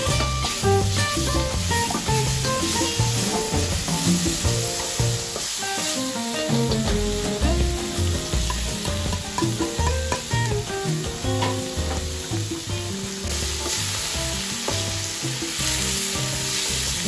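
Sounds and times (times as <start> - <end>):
background music with bass: 0.0 - 17.0
seafood sizzling in hot oil: 0.0 - 17.0.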